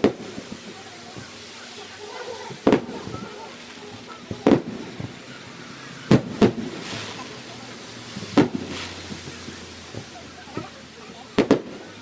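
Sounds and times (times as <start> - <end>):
distant fireworks booming: 0.0 - 12.0.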